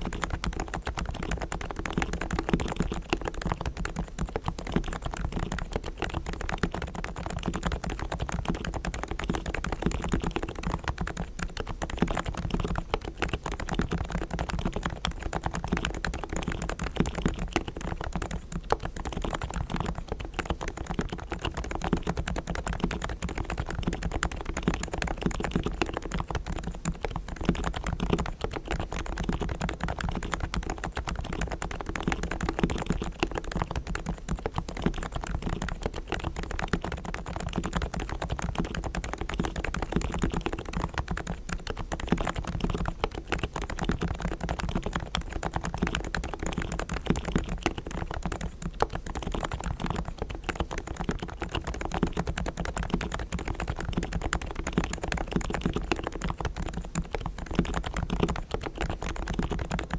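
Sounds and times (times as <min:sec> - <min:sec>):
rapid keyboard typing: 0:00.0 - 0:59.9.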